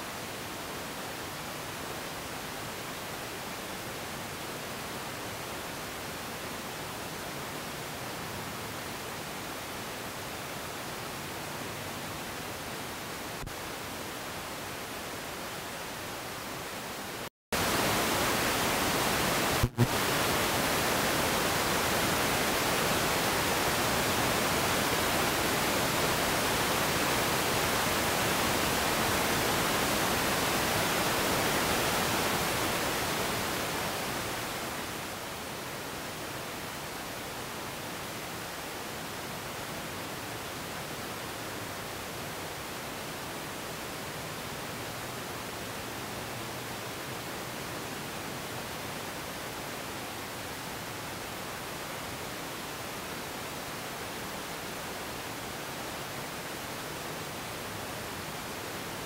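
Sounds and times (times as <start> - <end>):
steady static hiss: 0.0 - 59.0.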